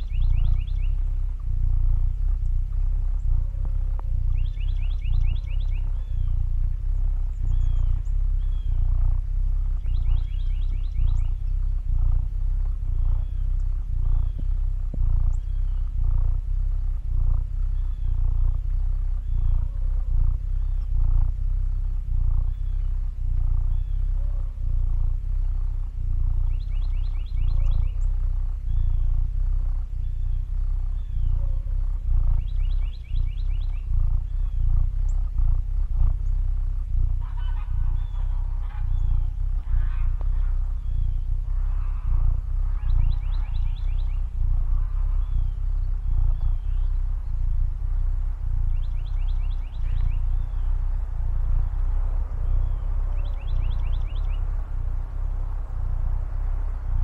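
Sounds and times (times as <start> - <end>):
bird trilling and chirping: 0.0 - 57.0
cat purring: 0.0 - 57.0.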